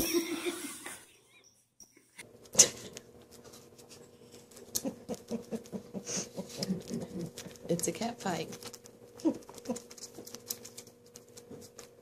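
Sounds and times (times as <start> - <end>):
kittens feeding from a bottle: 2.4 - 12.0.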